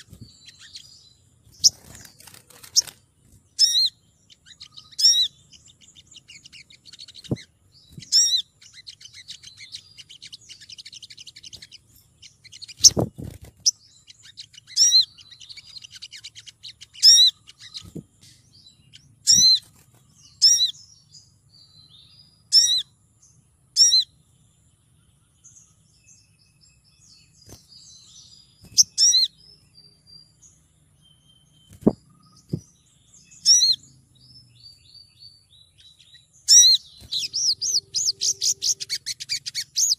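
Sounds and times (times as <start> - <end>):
bird rapid twittering: 0.0 - 22.9, 25.6 - 39.9
bird sharp high chirps: 0.0 - 39.9.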